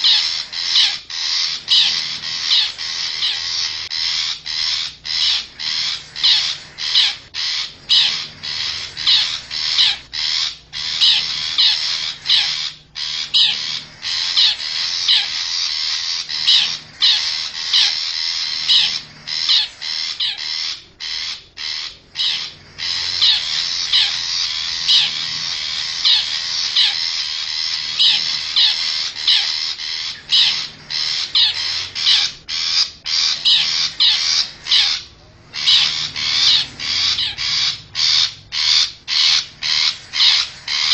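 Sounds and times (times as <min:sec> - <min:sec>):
recorded shrike calls: 0:00.0 - 0:40.9.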